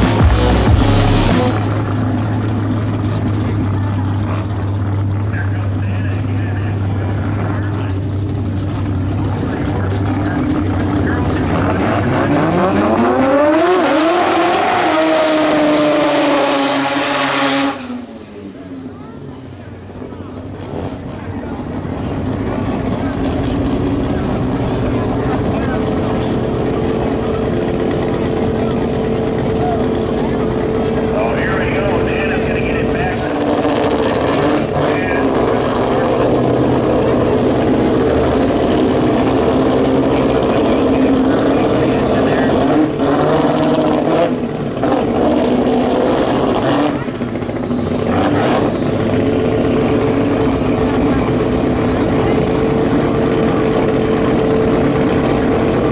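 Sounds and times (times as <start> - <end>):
drag racing car accelerating: 0.0 - 55.9.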